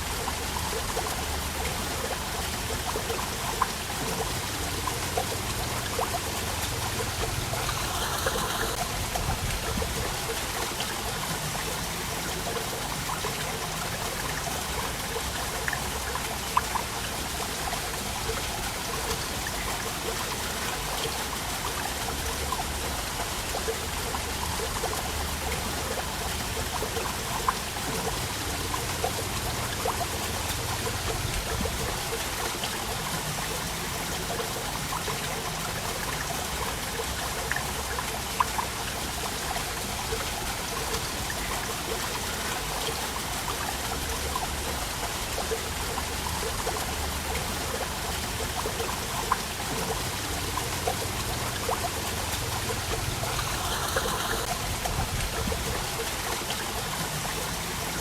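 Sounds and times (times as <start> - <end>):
small splashes and drips: 0.0 - 58.0
waterfall rushing: 0.0 - 58.0.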